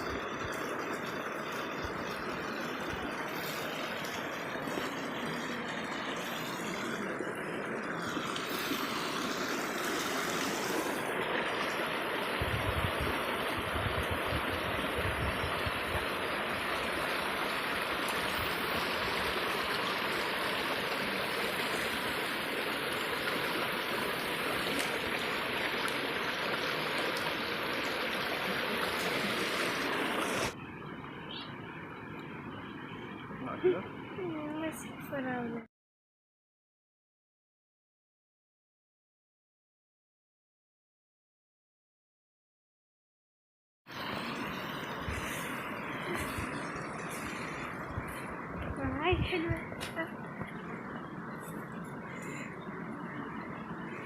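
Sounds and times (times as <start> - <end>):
stream water rushing: 0.0 - 35.0, 43.9 - 54.0.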